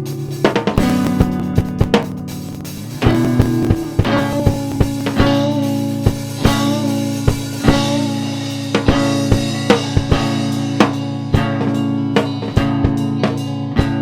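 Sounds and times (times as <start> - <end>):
band music: 0.0 - 14.0
drum kit beat: 0.0 - 14.0
held chords: 0.0 - 14.0.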